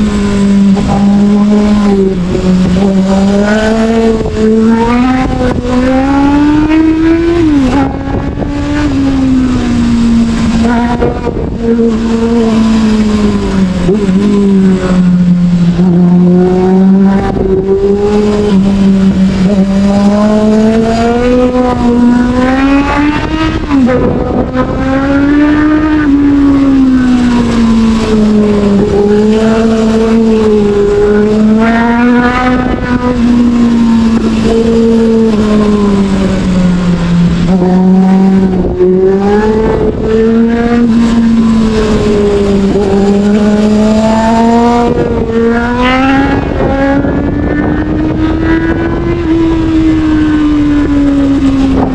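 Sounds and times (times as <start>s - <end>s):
motorcycle engine revving: 0.0s - 51.9s
wind noise: 0.0s - 51.9s.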